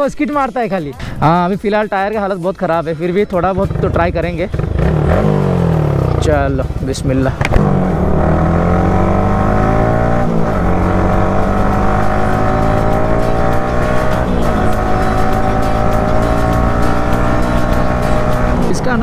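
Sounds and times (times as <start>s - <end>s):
motorcycle engine accelerating: 3.6s - 19.0s.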